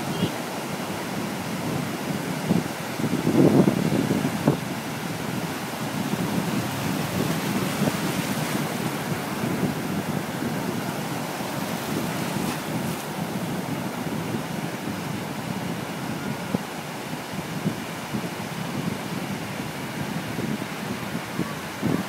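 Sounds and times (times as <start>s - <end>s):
surf washing over sand: 0.0s - 22.0s.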